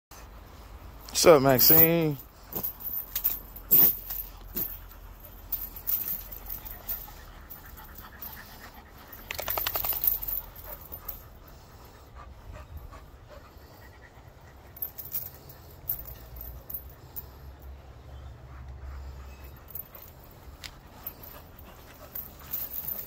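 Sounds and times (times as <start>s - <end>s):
dog panting: 2.2s - 23.0s.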